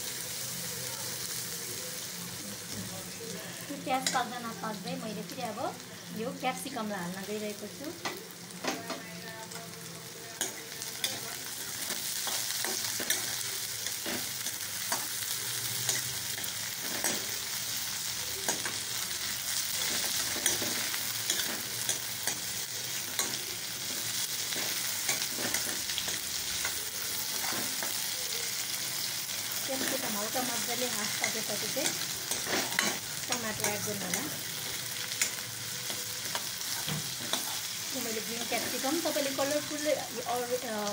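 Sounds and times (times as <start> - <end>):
vegetables sizzling in oil: 0.0 - 40.9.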